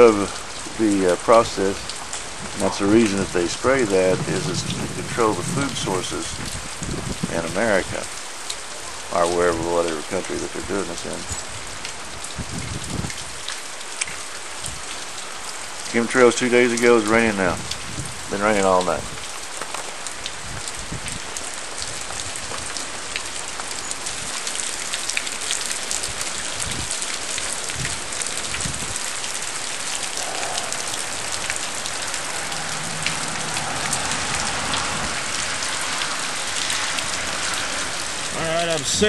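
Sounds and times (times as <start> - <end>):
pouring rain: 0.0 - 39.0
raindrops ticking: 0.0 - 39.0.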